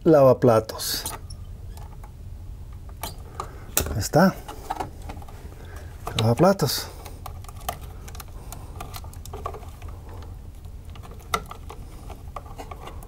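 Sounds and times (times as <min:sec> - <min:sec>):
low steady hum: 0:00.0 - 0:13.0
wires clicking and rattling: 0:00.8 - 0:13.0.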